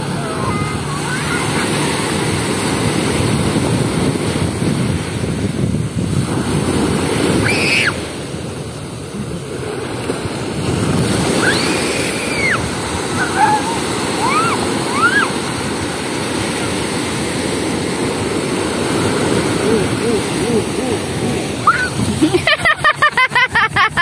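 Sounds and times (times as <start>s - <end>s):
wind rumbling on microphone: 0.0s - 22.7s
sea surf breaking on shore: 0.0s - 24.0s.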